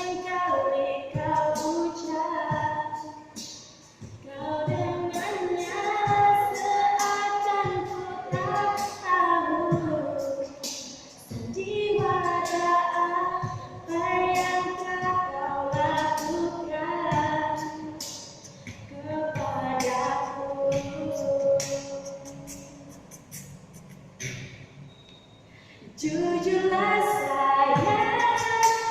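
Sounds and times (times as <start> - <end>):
woman singing slow melody: 0.0 - 3.4, 4.2 - 18.1, 18.9 - 23.1, 25.8 - 28.9.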